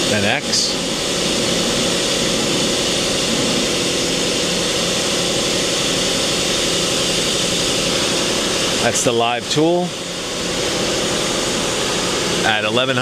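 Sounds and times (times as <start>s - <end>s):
machine hum and whir: 0.0s - 13.0s.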